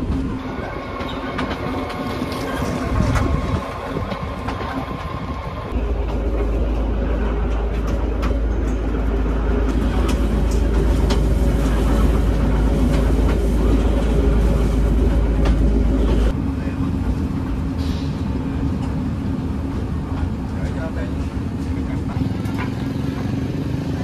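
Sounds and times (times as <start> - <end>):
wheels clicking on rails: 0.0 - 17.6, 18.3 - 24.0
passenger train rumbling on track: 0.0 - 24.0.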